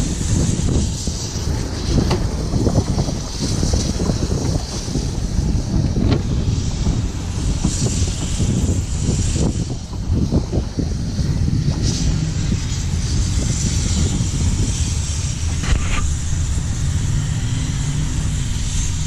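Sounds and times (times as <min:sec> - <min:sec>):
train carriages rumbling: 0:00.0 - 0:19.0
wheels clicking on track: 0:00.0 - 0:19.0
wind buffeting microphone: 0:00.0 - 0:19.0.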